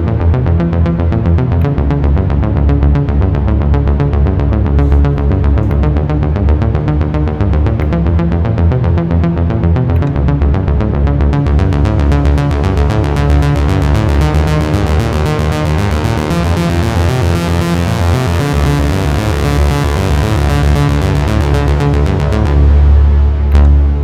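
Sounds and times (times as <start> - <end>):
low bass line: 0.0 - 24.0.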